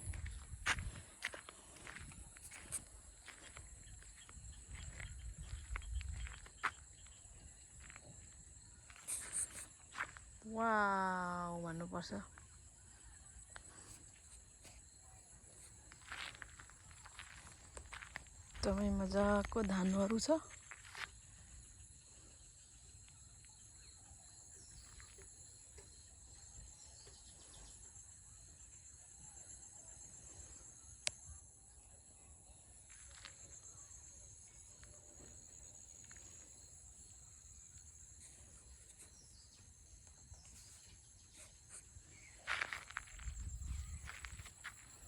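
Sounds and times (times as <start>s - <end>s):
insect chorus chirring: 0.0s - 45.0s.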